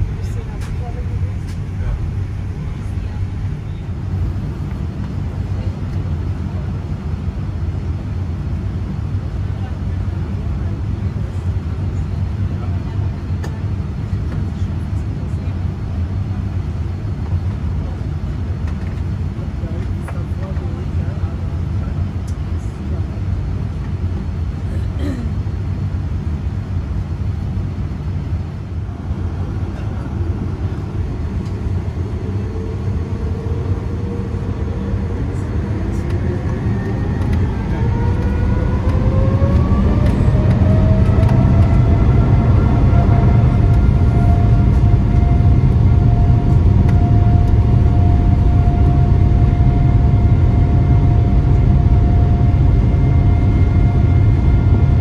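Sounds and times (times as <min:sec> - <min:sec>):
deep engine rumble: 0:00.0 - 0:55.0
jet engine whine: 0:00.0 - 0:55.0.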